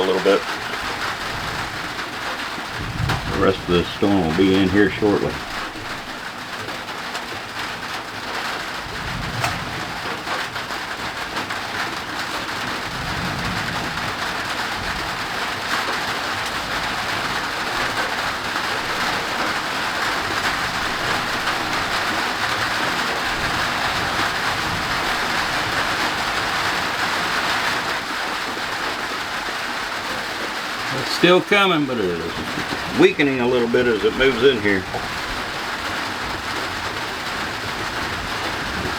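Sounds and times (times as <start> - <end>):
heavy rain pouring: 0.0 - 38.9
thunder rumbling: 0.0 - 38.9.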